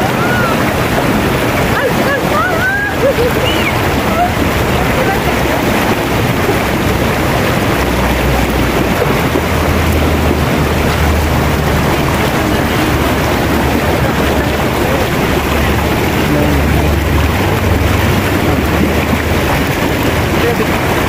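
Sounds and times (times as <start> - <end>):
low rumble: 0.0 - 21.0
river rushing over rocks: 0.0 - 21.0
small cascade pouring: 0.0 - 21.0
water splashing around wading legs: 0.0 - 21.0.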